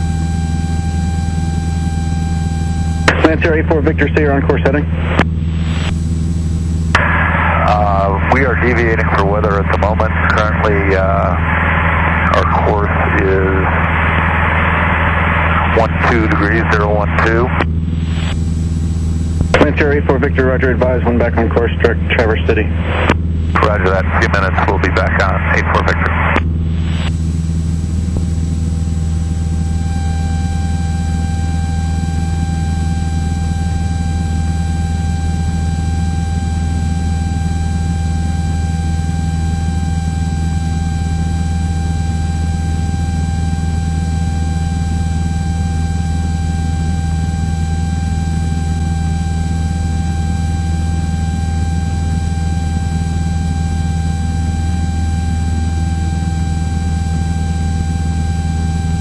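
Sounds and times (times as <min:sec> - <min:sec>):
propeller plane engine drone: 0:00.0 - 0:59.0
thin high whine: 0:00.0 - 0:59.0.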